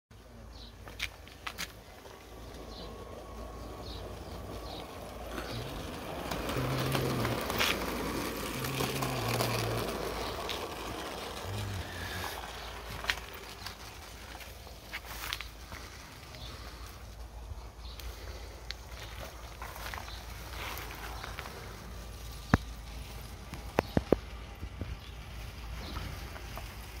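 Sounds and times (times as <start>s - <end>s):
model locomotive running on track: 1.5s - 27.0s.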